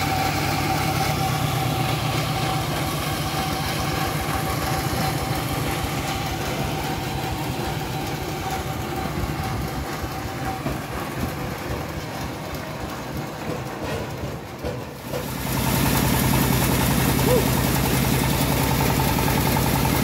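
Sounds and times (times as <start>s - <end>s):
sawmill engine throbbing: 0.0s - 20.0s.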